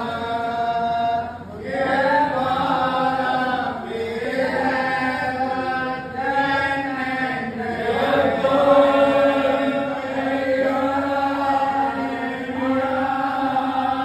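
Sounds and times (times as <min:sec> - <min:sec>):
priests chanting in unison: 0:00.0 - 0:14.0.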